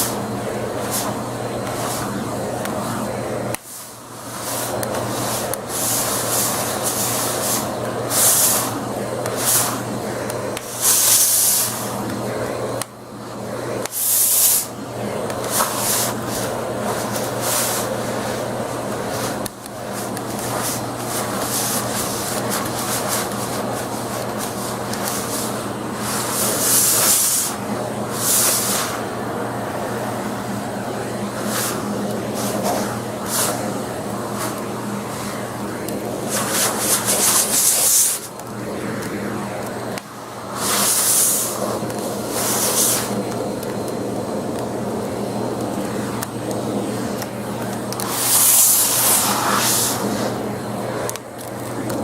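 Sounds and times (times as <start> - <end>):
hissing vacuum suction: 0.0 - 52.0
vacuum cleaner motor hum: 0.0 - 52.0.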